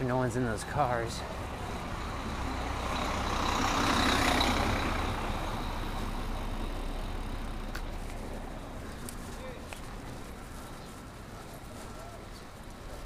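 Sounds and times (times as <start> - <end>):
motor vehicle passing: 1.2 - 13.0.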